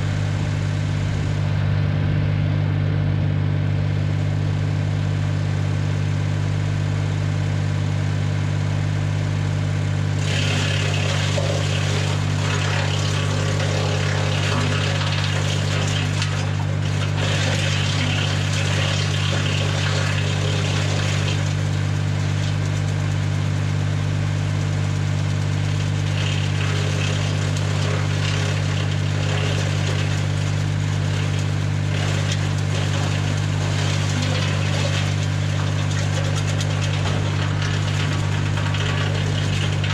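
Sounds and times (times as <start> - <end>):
wood chipper rushing and rattling: 0.0 - 1.9, 9.7 - 39.9
tractor engine droning: 0.0 - 5.1, 10.0 - 39.9.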